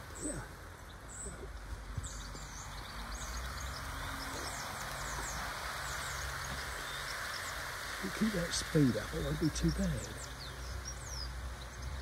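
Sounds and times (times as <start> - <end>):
small birds chirping: 0.0 - 12.0
steady hiss: 0.0 - 12.0.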